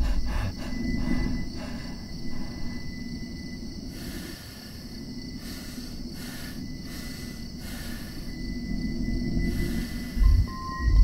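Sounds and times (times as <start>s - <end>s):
low rumbling ambience: 0.0s - 11.0s.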